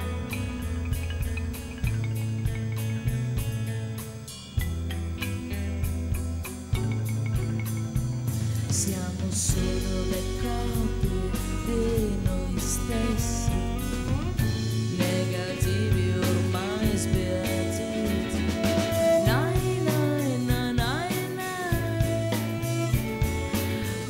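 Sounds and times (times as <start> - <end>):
drum kit: 0.0 - 24.0
electric bass: 0.0 - 24.0
live rock band playing: 0.0 - 24.0.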